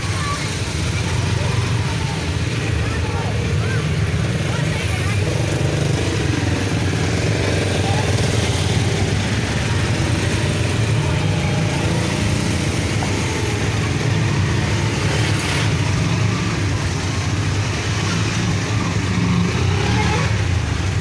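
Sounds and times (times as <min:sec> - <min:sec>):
auto-rickshaw engine running: 0:00.0 - 0:21.0.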